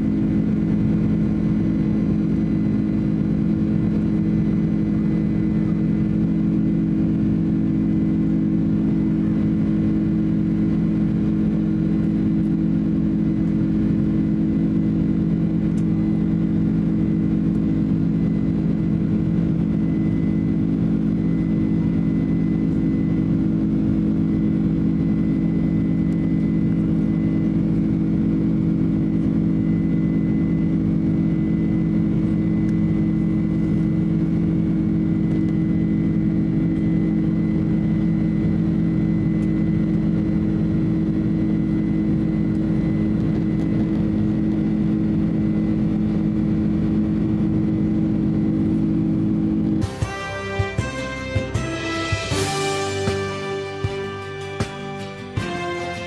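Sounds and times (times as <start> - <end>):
jet engines droning: 0.0 - 56.0.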